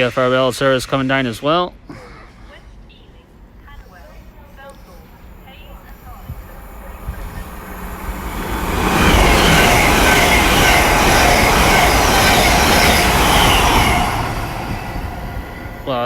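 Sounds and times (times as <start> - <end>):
express train passing at speed: 2.9 - 16.0.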